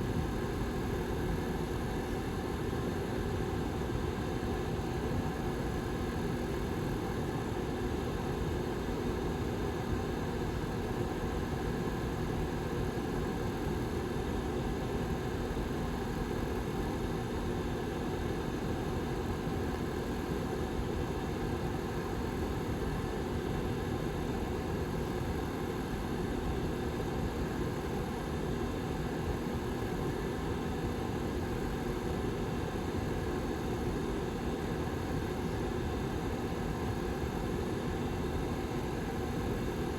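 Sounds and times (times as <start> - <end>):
heater fan air rush and hum: 0.0 - 39.9.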